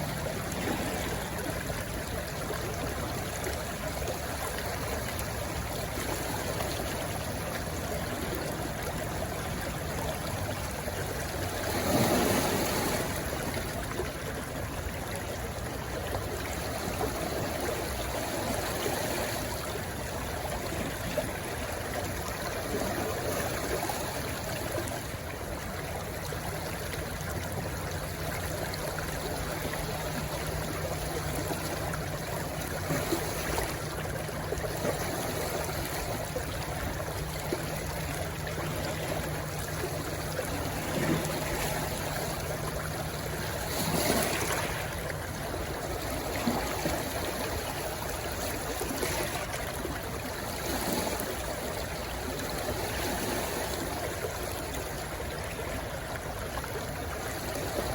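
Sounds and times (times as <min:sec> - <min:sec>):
stream water rushing and trickling: 0:00.0 - 0:57.9.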